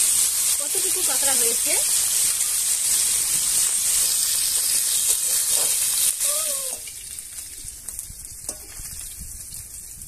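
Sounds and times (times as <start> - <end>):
crabs sizzling in oil: 0.0 - 10.0.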